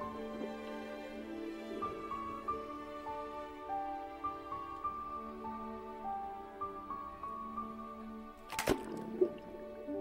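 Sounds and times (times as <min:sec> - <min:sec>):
soft slow melody: 0:00.0 - 0:10.0.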